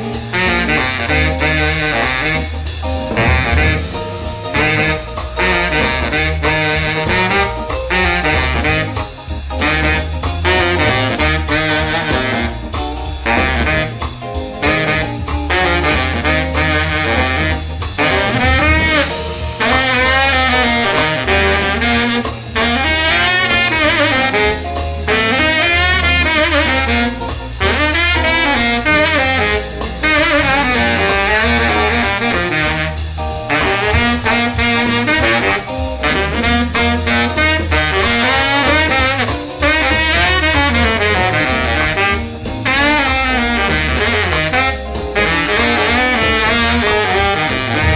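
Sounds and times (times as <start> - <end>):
baritone saxophone playing jazz: 0.0 - 47.9
bass line: 0.0 - 47.9
drums: 0.0 - 47.9.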